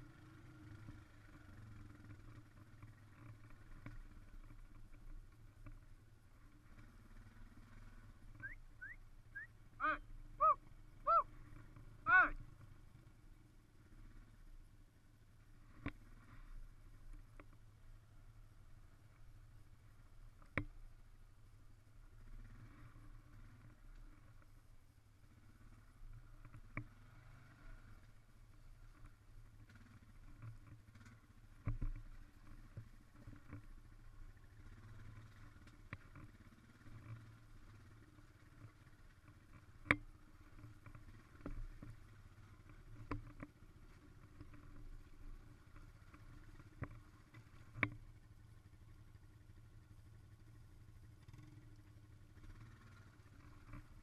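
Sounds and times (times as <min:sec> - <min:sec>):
faint engine humming: 0:00.0 - 0:54.0.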